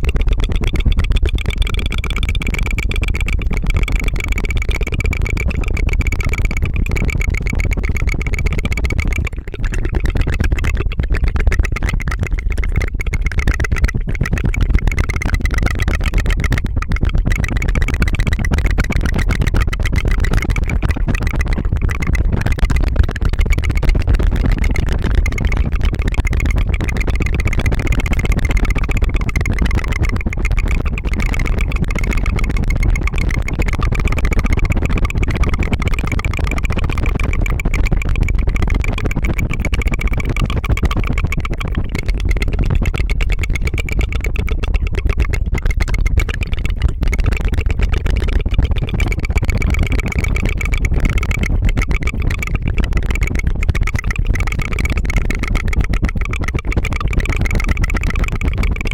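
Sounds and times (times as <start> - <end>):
tongue fluttering trill: 0.0 - 58.9.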